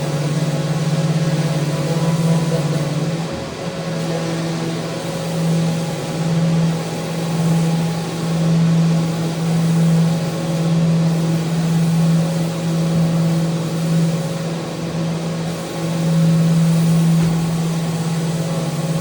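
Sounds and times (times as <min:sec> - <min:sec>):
electric power sander: 0:00.0 - 0:19.0.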